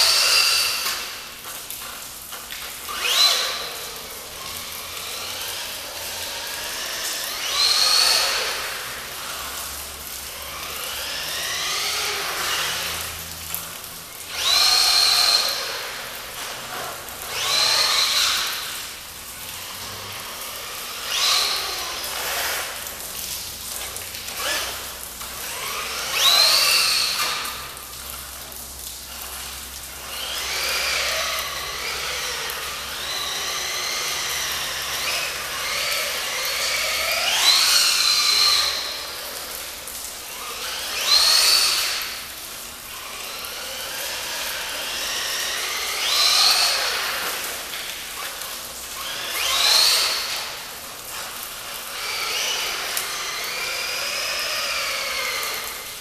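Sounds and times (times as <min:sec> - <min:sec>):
electric motor revving whine: 0:00.0 - 0:56.0.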